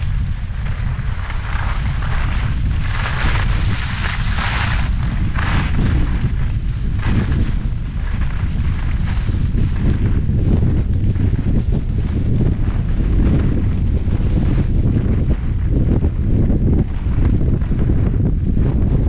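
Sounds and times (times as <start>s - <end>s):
ski edges scraping snow: 0.0s - 15.3s
wind buffeting microphone: 0.0s - 19.0s.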